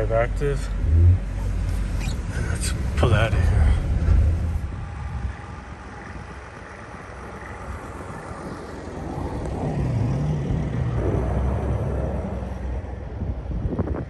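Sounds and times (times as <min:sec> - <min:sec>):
diesel van engine driving: 0:00.0 - 0:14.0.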